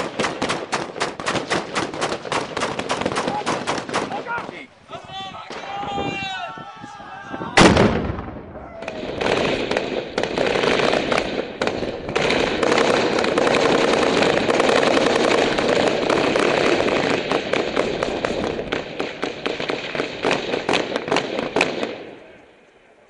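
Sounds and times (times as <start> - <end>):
machine gun firing: 0.0 - 4.3, 7.6 - 22.0.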